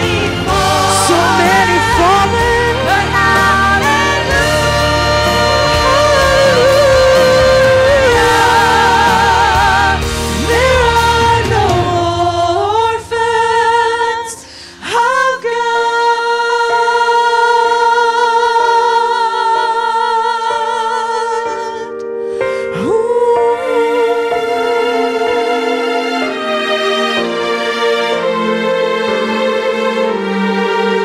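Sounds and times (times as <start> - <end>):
gospel singing with vibrato: 0.0 - 31.0
musical accompaniment: 0.0 - 31.0.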